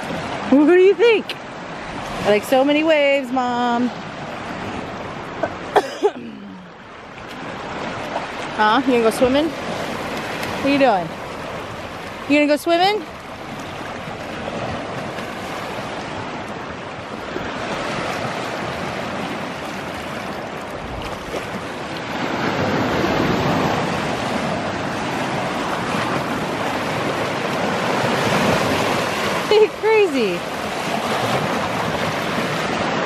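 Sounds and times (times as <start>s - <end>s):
lake waves splashing on rocks: 0.0s - 6.2s, 6.8s - 33.0s.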